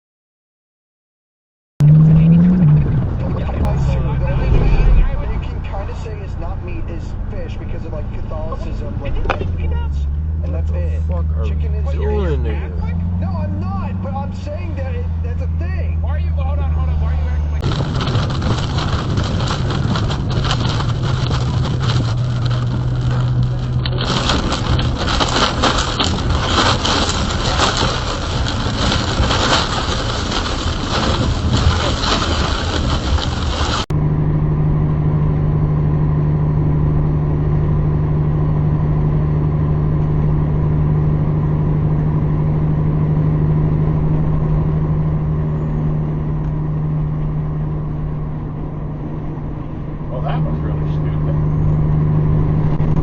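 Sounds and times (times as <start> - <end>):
loud rough road noise: 1.8 - 53.0
low engine hum: 1.8 - 53.0.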